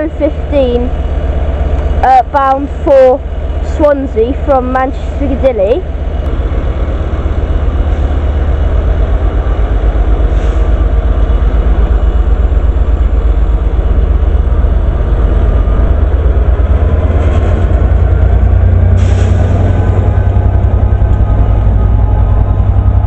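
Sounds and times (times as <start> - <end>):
diesel locomotive engine pulsing: 0.0 - 23.0.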